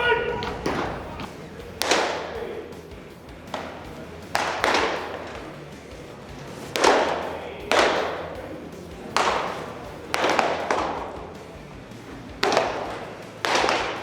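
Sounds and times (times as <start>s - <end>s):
baseballs smacking into mitts: 0.0s - 14.0s.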